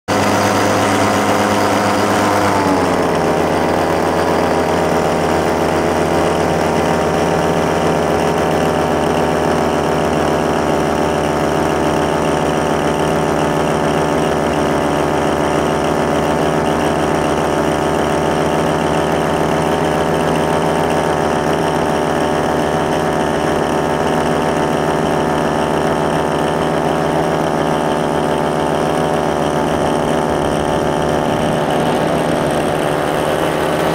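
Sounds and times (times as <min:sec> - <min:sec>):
paramotor engine and propeller: 0:00.1 - 0:33.9.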